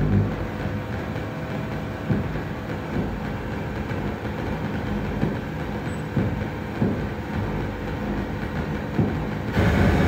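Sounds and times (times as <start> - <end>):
low electronic drone: 0.0 - 10.0
low thumps: 0.0 - 10.0.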